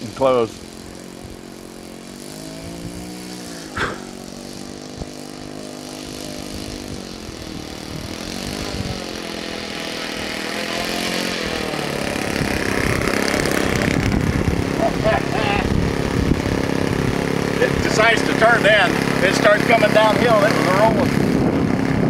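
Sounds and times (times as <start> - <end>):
model airplane engine buzzing: 0.0 - 22.0.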